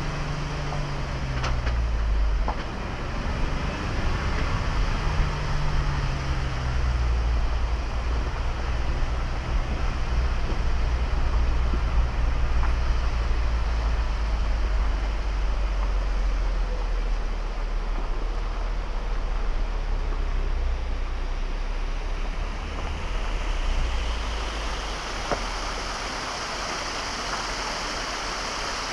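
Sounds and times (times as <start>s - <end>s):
vehicle engine and road rumble: 0.0s - 28.9s.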